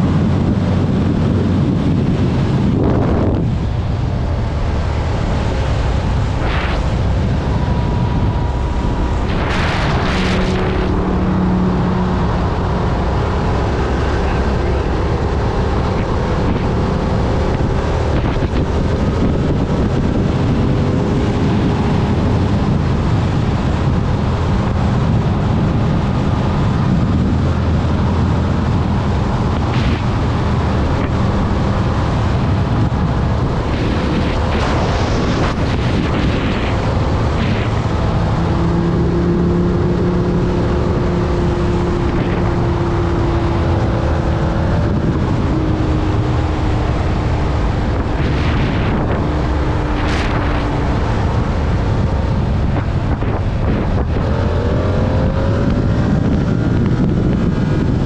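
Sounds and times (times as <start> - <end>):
motorcycle engine cruising: 0.0 - 58.0
wind rush on microphone: 0.0 - 58.0.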